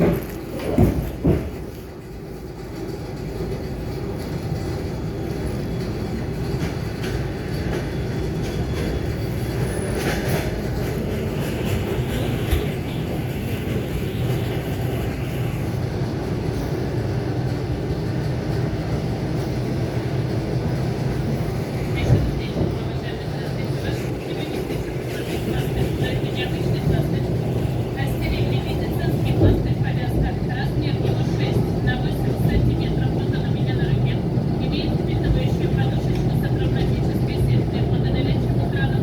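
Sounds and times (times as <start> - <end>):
electric train rumble inside carriage: 0.0 - 39.0.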